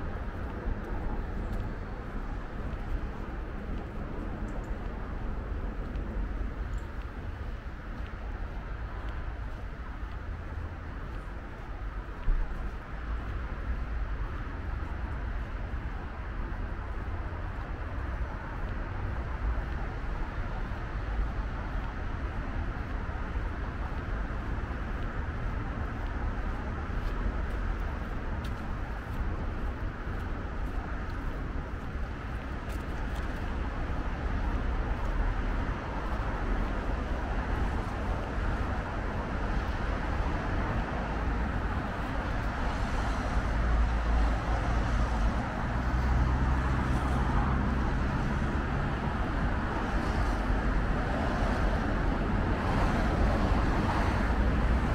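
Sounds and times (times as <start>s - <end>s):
road traffic rumble: 0.0s - 54.9s.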